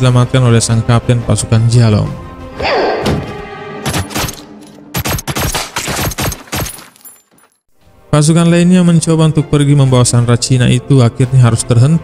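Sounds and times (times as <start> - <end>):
music: 0.0 - 5.6, 7.7 - 12.0.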